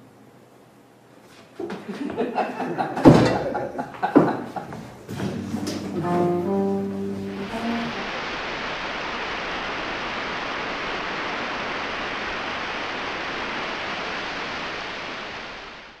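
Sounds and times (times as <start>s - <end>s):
static-like hiss: 0.0s - 16.0s.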